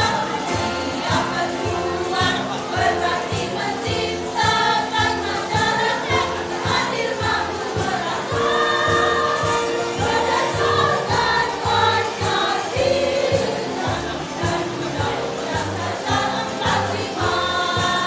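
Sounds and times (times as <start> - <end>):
choir singing: 0.0 - 18.0
instrumental accompaniment with beat: 0.0 - 18.0.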